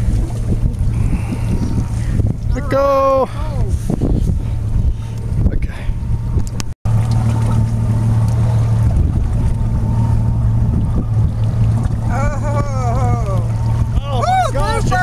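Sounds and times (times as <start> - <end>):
boat engine humming: 0.0 - 15.0
water noise: 0.0 - 15.0
wind: 0.0 - 15.0.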